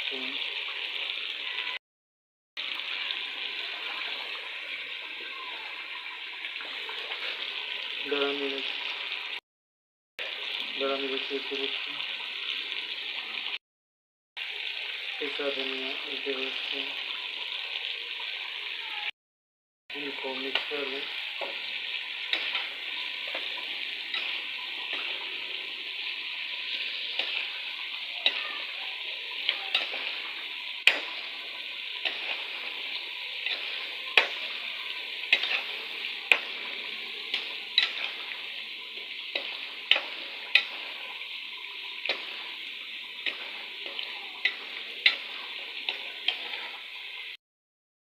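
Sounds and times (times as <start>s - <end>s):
food sizzling in pot: 0.0s - 1.8s, 2.6s - 9.4s, 10.2s - 13.6s, 14.4s - 19.1s, 19.9s - 47.4s.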